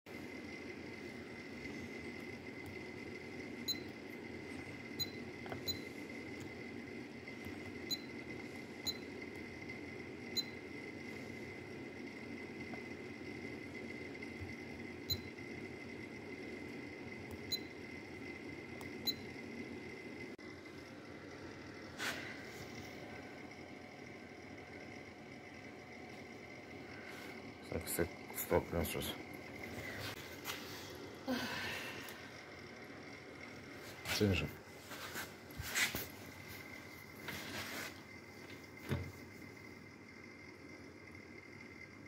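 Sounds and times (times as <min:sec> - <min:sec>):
faint steady high whine: 0:00.1 - 0:42.0.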